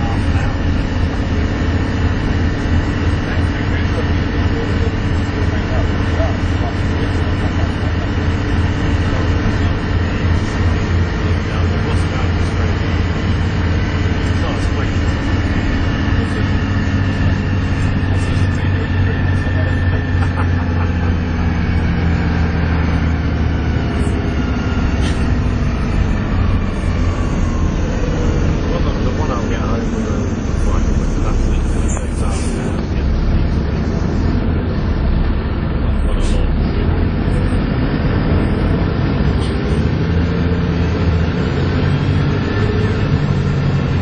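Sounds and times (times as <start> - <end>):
diesel bus engine under load: 0.0 - 44.0
high engine whine: 0.0 - 44.0.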